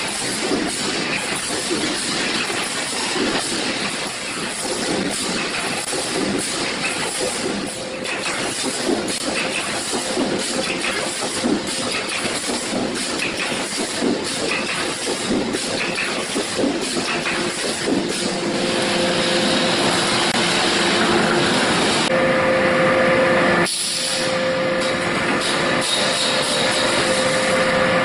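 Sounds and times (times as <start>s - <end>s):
welding machine clattering: 0.0s - 22.1s, 24.8s - 27.7s.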